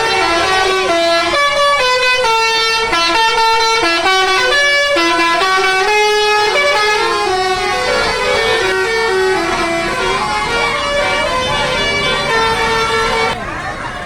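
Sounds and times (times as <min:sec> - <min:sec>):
bus musical air horn: 0:00.0 - 0:14.0.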